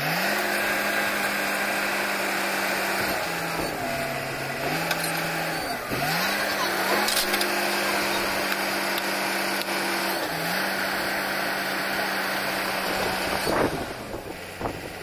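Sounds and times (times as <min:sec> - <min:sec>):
drilling rig engine running: 0:00.0 - 0:15.0.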